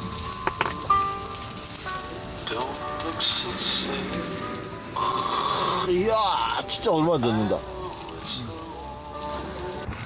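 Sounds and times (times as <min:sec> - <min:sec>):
food sizzling in pan: 0:00.0 - 0:09.9
background music: 0:00.0 - 0:10.0.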